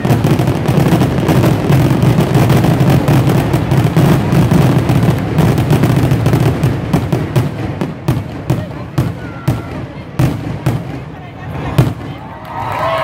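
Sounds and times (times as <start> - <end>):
fireworks booming and crackling: 0.0 - 12.4.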